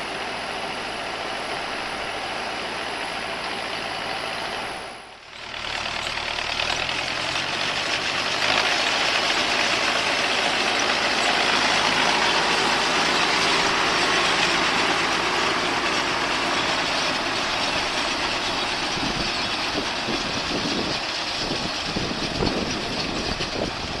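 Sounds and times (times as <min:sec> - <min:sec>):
tractor and baler machinery din: 0:00.0 - 0:24.0.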